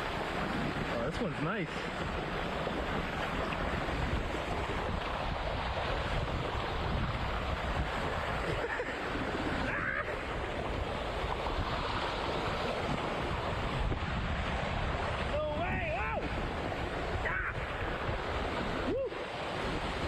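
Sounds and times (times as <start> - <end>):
whitewater rushing and splashing: 0.0 - 20.0.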